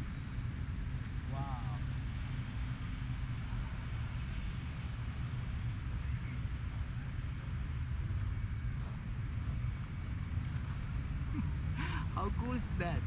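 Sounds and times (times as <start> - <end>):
constant low rumble: 0.0 - 13.0
crickets chirping: 0.0 - 13.0.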